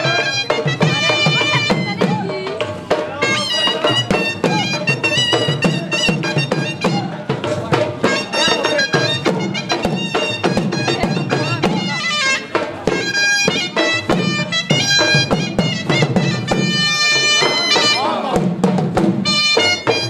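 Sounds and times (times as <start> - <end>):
shrill double-reed pipe melody: 0.0 - 2.4, 3.2 - 7.2, 8.0 - 18.3, 19.2 - 20.0
fast drum beat: 0.0 - 20.0.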